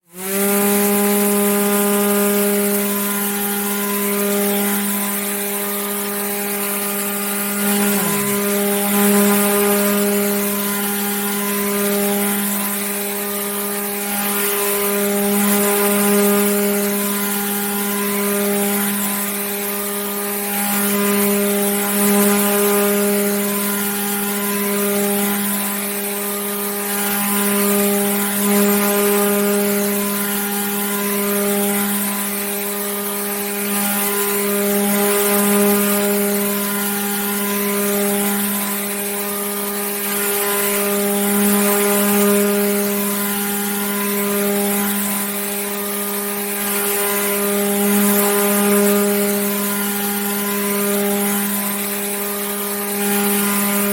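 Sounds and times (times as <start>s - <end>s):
electric water pump humming: 0.1s - 53.9s.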